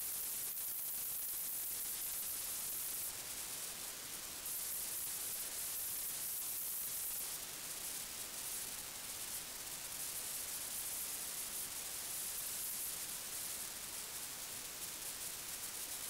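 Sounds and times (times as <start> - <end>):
electronic hiss: 0.0 - 16.0.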